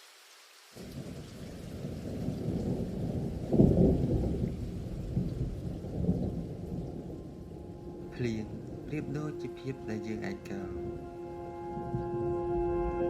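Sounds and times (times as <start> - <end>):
steady rain: 0.0 - 13.0
thunder rumbling: 0.8 - 13.0.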